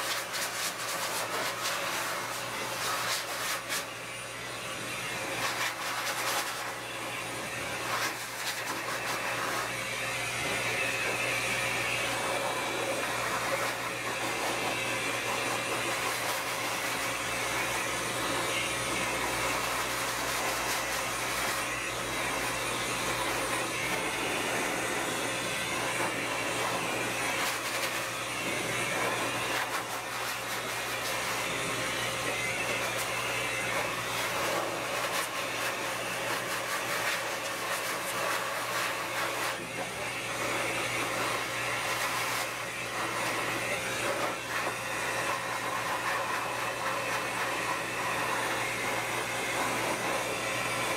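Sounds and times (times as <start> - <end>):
grooming dryer blowing air: 0.0 - 50.9.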